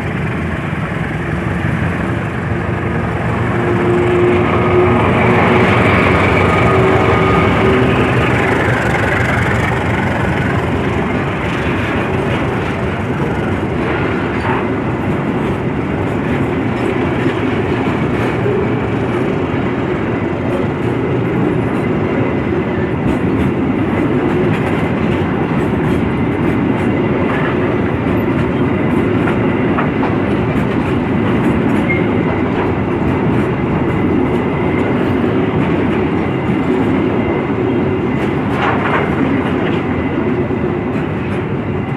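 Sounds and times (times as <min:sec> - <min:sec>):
train wheels on rails: 0:00.0 - 0:41.9.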